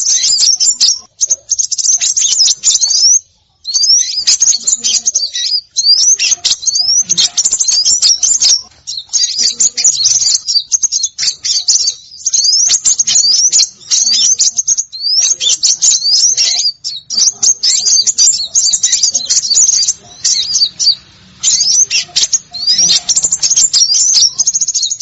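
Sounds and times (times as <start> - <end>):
songbirds chirping and twittering: 0.0 - 25.0.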